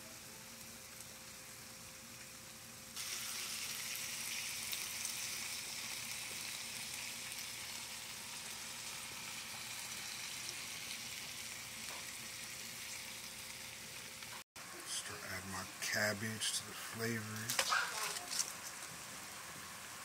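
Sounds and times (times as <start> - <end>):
meat sizzling in a skillet: 0.0 - 15.3, 17.0 - 20.0.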